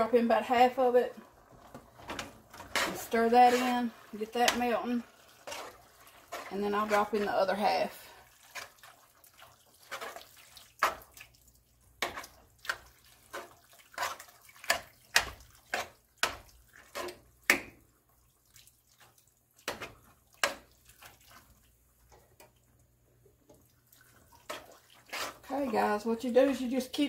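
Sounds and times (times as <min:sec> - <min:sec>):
spoon stirring thick food: 0:00.4 - 0:27.0.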